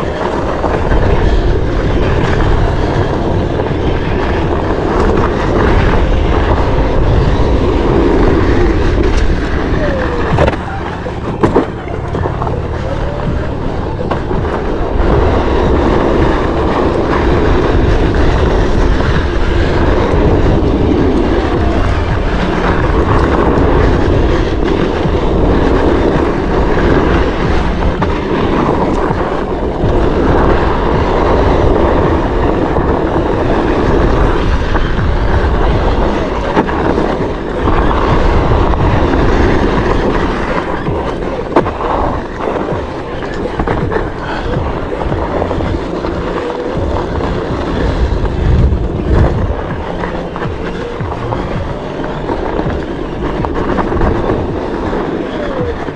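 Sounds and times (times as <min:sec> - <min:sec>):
tire rolling on dirt trail: 0:00.0 - 0:55.9
wind on microphone: 0:00.0 - 0:55.9.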